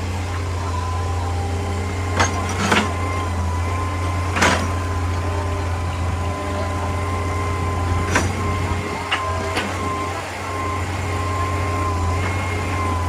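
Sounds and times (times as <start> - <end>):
constant whine: 0.0 - 13.0
diesel engine running: 0.0 - 13.0.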